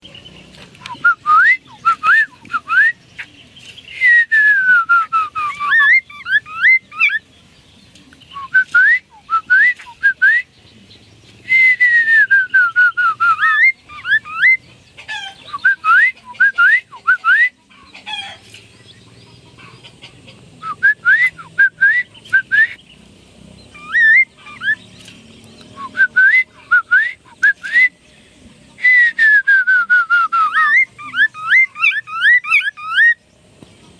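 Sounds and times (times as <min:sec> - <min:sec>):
laughingthrush singing whistles: 0:00.8 - 0:07.3, 0:08.3 - 0:10.6, 0:11.4 - 0:18.3, 0:19.6 - 0:22.9, 0:23.6 - 0:28.1, 0:28.8 - 0:33.2.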